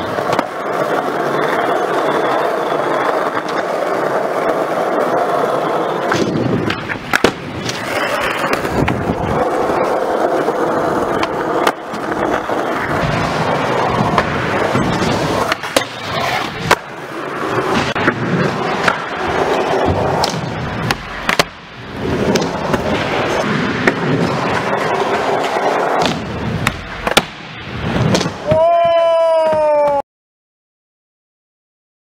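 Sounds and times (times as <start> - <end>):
skateboard popping and landing: 0.0 - 30.0
skateboard wheels rolling: 0.0 - 30.0.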